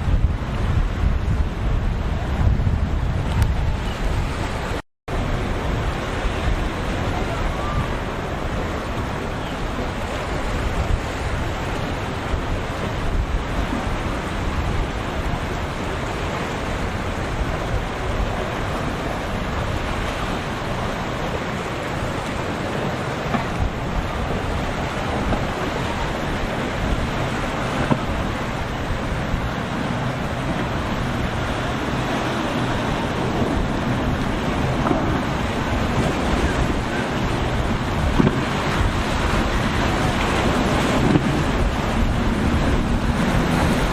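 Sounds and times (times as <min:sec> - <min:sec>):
waves breaking: 0:00.0 - 0:43.9
wind buffeting microphone: 0:00.0 - 0:43.9.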